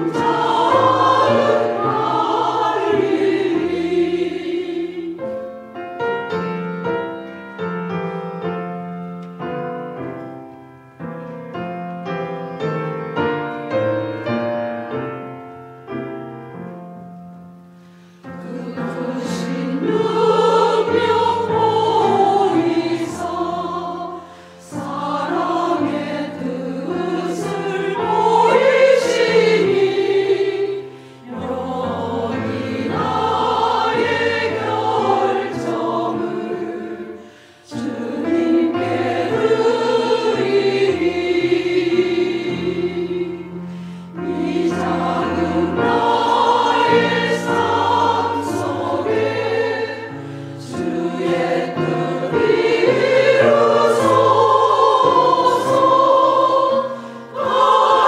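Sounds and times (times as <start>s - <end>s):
choir singing a hymn: 0.0s - 10.4s, 17.8s - 58.0s
piano accompaniment: 0.0s - 58.0s.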